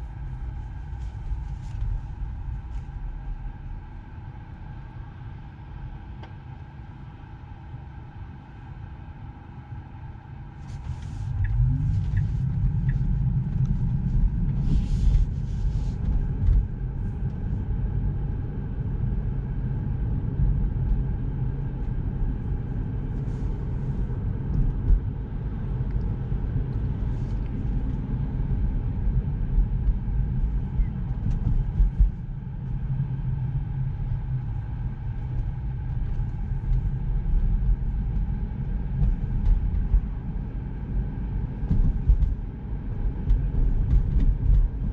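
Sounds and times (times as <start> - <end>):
road and tyre rumble: 0.0 - 44.9.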